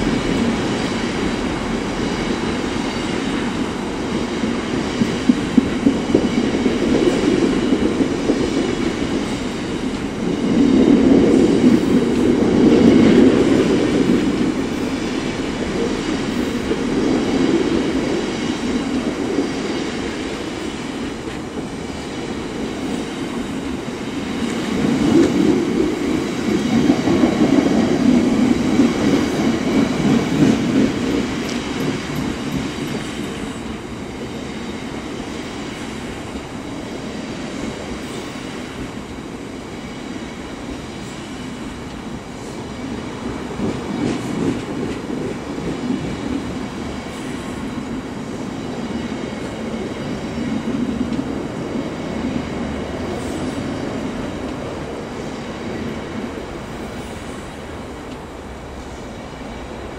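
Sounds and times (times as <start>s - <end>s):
freight train wheels clattering on rails: 0.0s - 59.9s.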